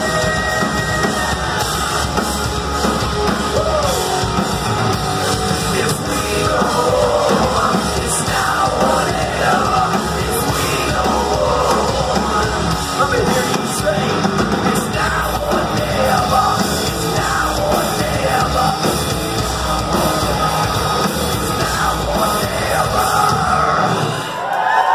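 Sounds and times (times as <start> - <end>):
distorted guitars: 0.0 - 24.5
drum kit: 0.0 - 24.9.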